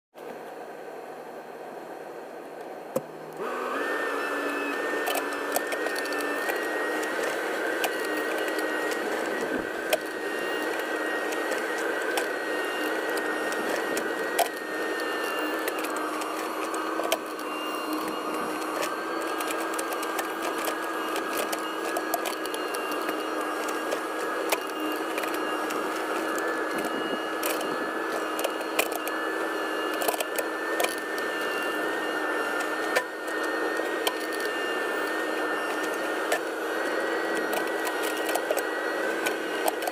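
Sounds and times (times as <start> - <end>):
diesel engine and hydraulics whining: 0.2 - 39.9.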